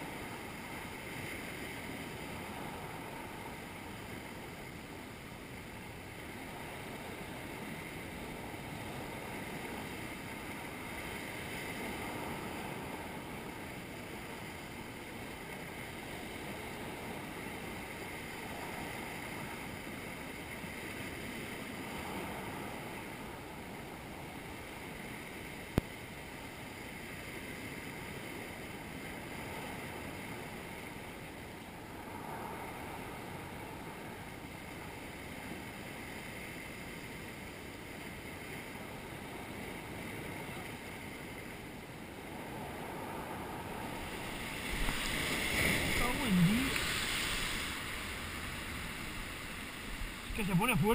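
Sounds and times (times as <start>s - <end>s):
sea surf washing against rocks: 0.0s - 50.9s.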